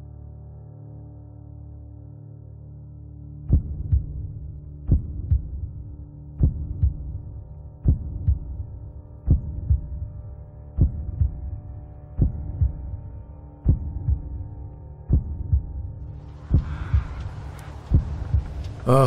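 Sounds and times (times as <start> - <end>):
steady low drone: 0.0 - 19.0
slow heartbeat: 3.5 - 19.0.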